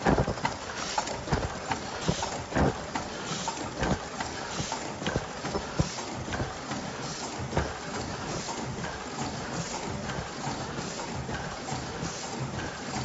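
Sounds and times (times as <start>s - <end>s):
sharp clacks and knocks: 0.0s - 12.8s
machine mechanical clatter: 0.0s - 13.0s.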